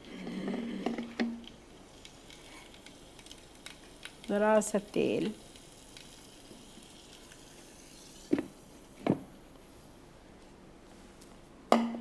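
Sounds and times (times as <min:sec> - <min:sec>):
oil sizzling on charcoal: 0:00.0 - 0:10.1.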